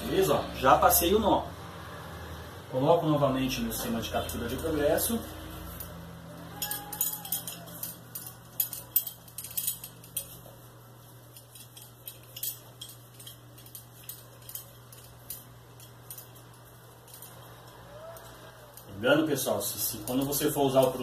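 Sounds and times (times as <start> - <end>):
metal carabiners clinking: 3.8 - 21.0.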